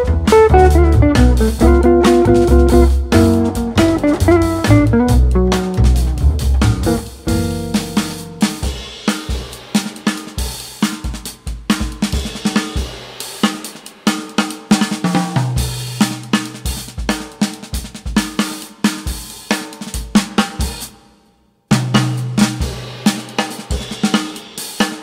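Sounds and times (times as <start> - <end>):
upbeat drum and bass music: 0.0 - 20.9, 22.0 - 25.0.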